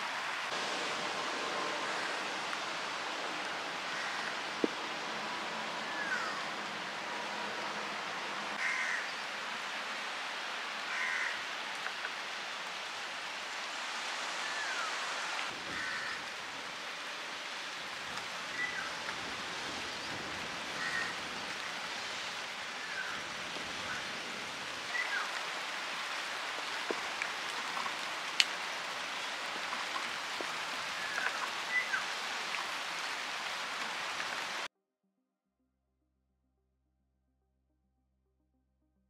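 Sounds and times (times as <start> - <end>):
outdoor hiss: 0.0 - 34.7.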